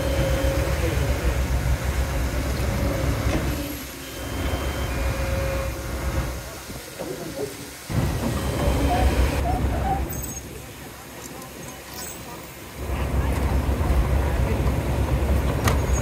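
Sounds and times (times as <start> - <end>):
bulldozer diesel engine: 0.0 - 16.0
track clatter: 0.0 - 16.0.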